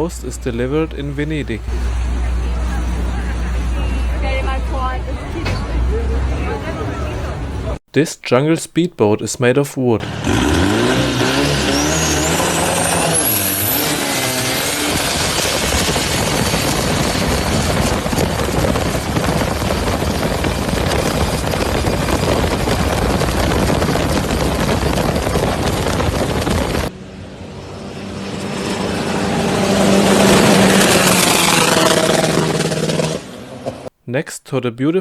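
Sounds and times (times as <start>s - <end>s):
approaching engine hum: 0.0s - 7.8s, 10.0s - 33.9s
speedboat engine running: 0.0s - 7.8s, 10.0s - 33.8s.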